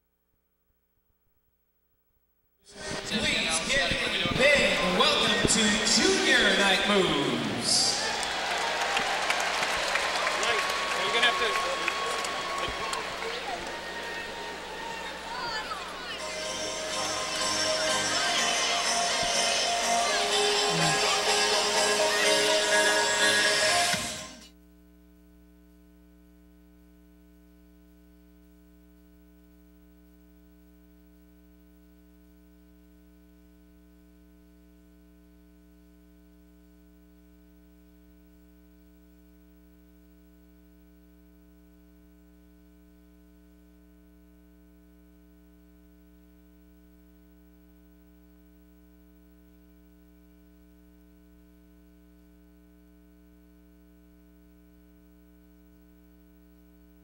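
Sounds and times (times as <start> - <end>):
buzzy mains hum: 2.6 - 57.0.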